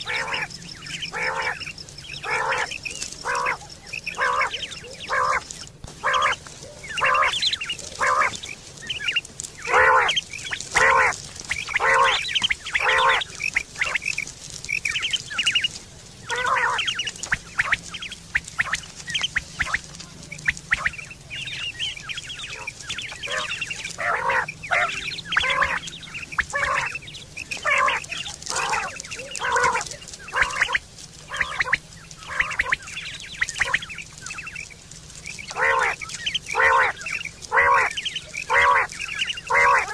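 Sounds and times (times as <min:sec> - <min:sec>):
higher-pitched bird calls: 0:00.0 - 0:39.9
quail calls: 0:00.0 - 0:39.9.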